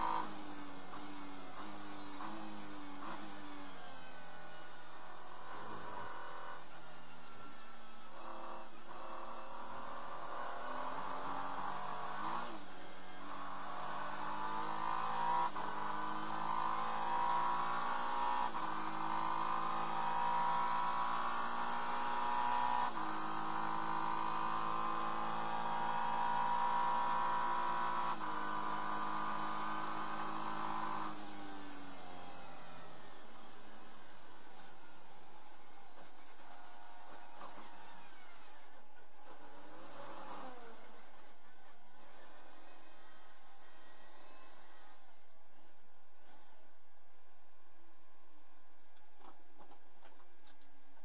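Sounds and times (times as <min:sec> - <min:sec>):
race car engine revving: 0:00.0 - 0:45.3.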